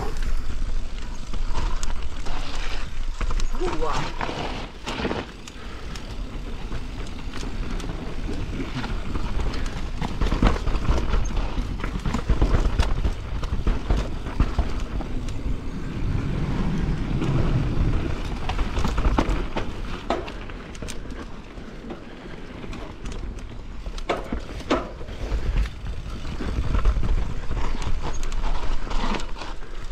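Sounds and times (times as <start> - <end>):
bike knocking and rattling: 0.0 - 29.9
bike tyres rumbling over dirt: 0.0 - 29.9.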